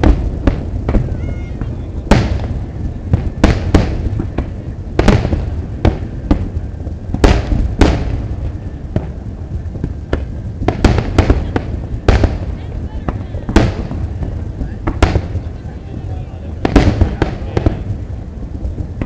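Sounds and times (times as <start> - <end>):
continuous low rumble: 0.0 - 19.0
fireworks bangs: 0.0 - 19.0.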